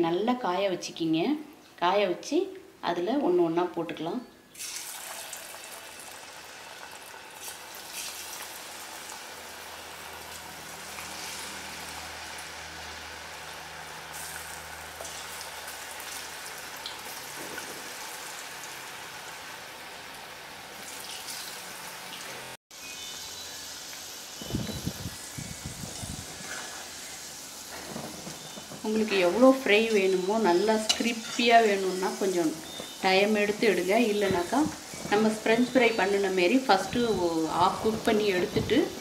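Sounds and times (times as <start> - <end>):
potatoes deep-frying in oil: 4.5 - 39.0.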